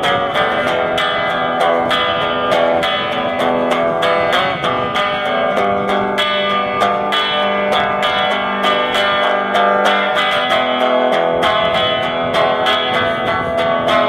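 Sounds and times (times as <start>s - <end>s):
guitar strumming: 0.0s - 14.0s.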